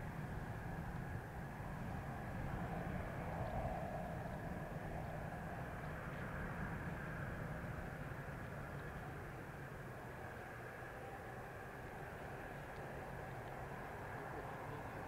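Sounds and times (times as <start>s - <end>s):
distant jet engines running: 0.0s - 15.0s.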